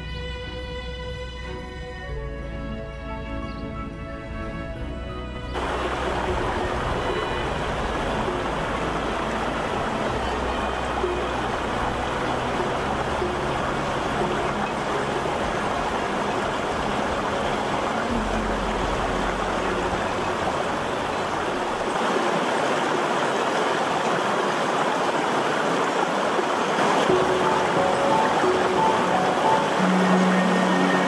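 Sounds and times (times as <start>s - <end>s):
stream rushing over rocks: 5.6s - 31.0s.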